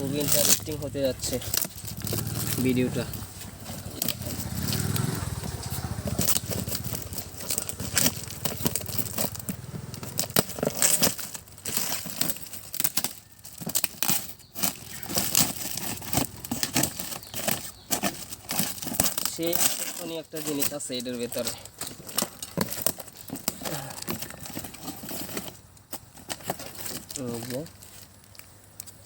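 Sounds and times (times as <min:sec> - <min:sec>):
packaging crinkling and tearing: 0:00.0 - 0:29.0.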